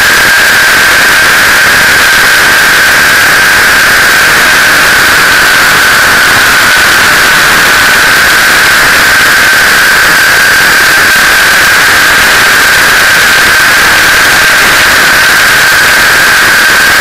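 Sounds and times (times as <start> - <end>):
helicopter high whine: 0.0 - 17.0.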